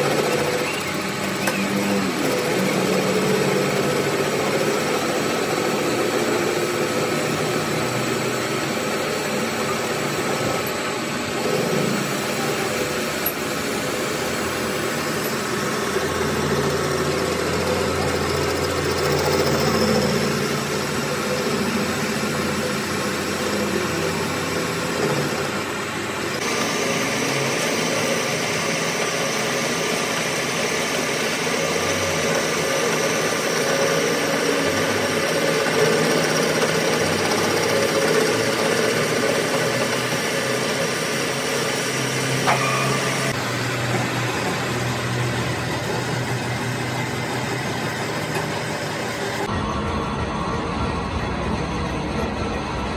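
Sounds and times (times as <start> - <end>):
workshop machine humming: 0.0 - 52.9.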